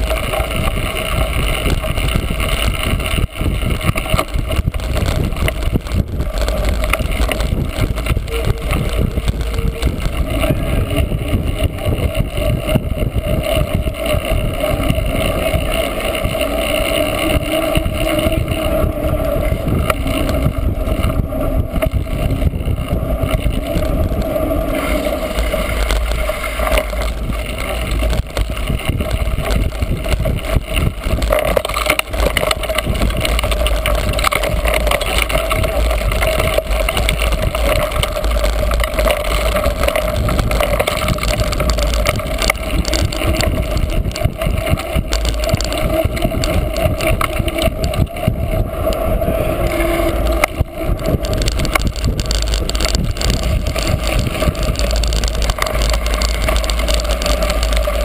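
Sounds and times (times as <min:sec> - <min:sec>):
bike rattling and clicking: 0:00.0 - 0:58.0
wind and vibration rumble: 0:00.0 - 0:58.0.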